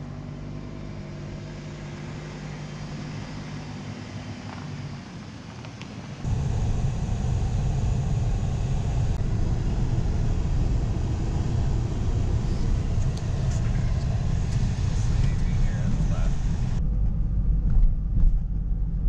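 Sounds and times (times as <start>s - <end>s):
truck engine and tyres rumbling: 0.0s - 19.0s.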